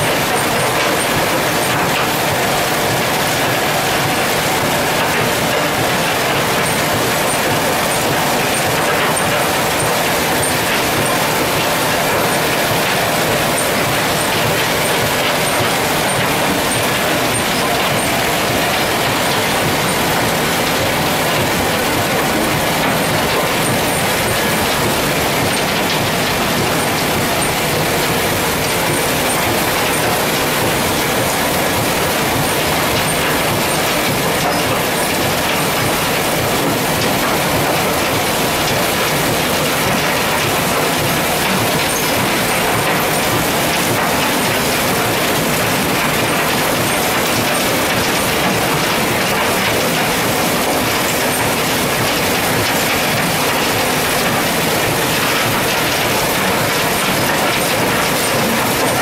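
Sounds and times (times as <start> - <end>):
flowing slurry water: 0.0 - 59.0
machinery running: 0.0 - 59.0.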